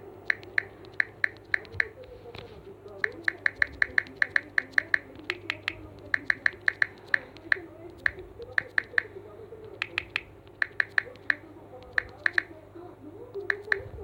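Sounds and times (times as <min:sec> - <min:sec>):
phone keyboard clicks: 0:00.0 - 0:12.5, 0:13.4 - 0:14.0.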